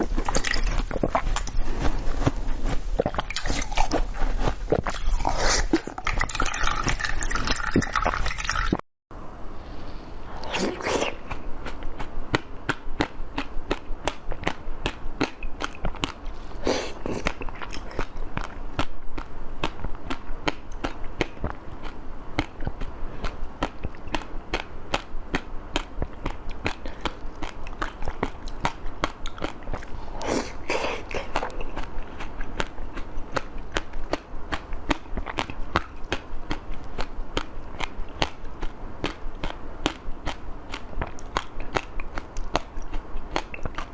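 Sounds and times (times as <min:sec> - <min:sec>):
crisp chewing: 0:00.0 - 0:07.0, 0:10.4 - 0:43.9
wet eating sound: 0:00.0 - 0:08.8, 0:10.3 - 0:43.9.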